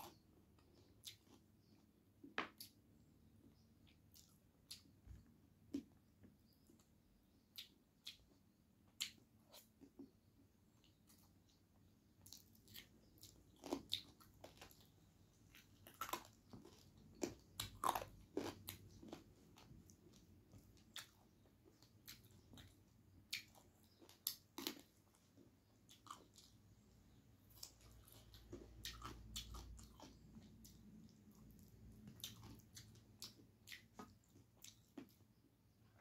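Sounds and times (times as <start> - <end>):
chewing and crunching: 0.0 - 36.0.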